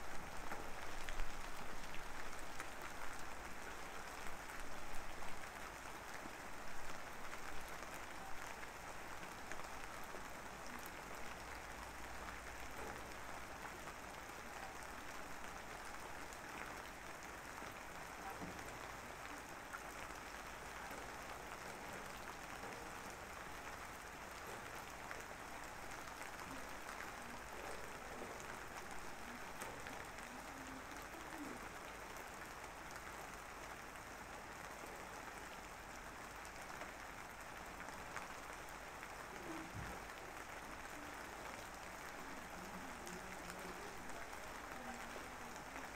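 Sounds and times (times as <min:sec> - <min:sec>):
soft rain-like hiss: 0:00.0 - 0:45.9.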